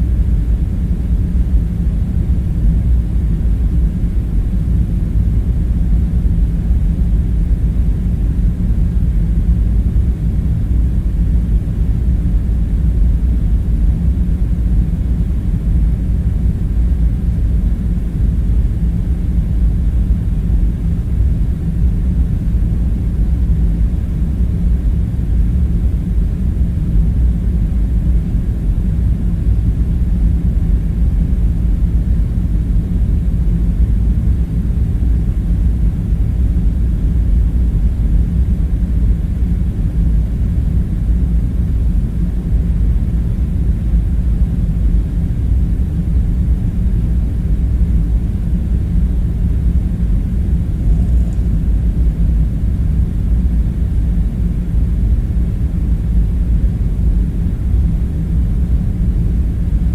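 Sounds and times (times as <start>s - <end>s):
faint hum: 0.0s - 59.9s
low machinery rumble: 0.0s - 59.9s.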